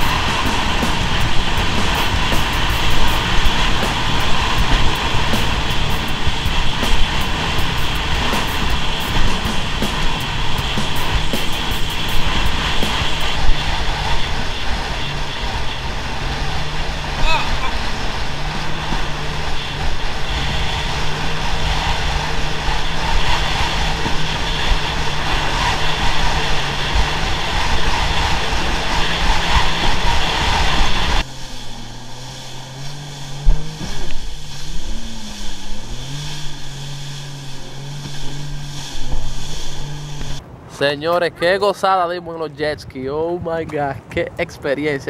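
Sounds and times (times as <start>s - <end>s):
jet ski engine: 0.0s - 40.7s
wind and water rushing: 0.0s - 45.0s.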